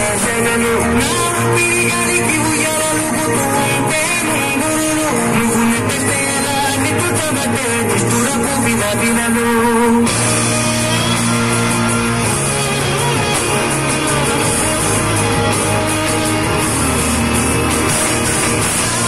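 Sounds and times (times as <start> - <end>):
rock dance music over loudspeakers: 0.0 - 19.0.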